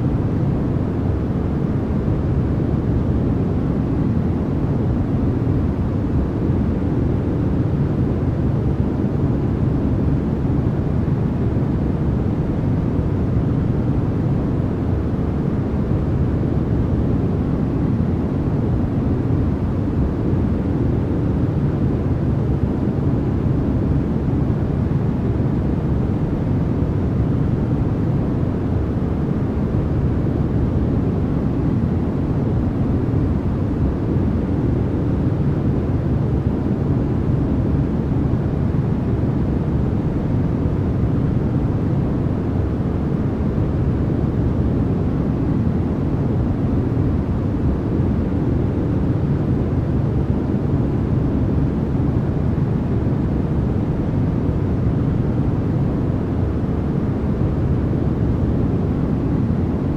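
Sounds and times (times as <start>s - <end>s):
deep white noise rush: 0.0s - 59.9s.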